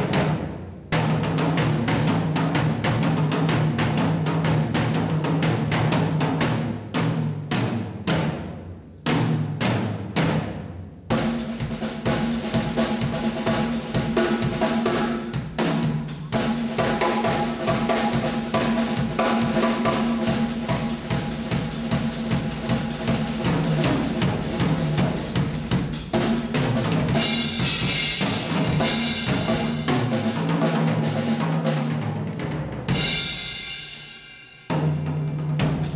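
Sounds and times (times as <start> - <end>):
drum kit solo: 0.0 - 35.9.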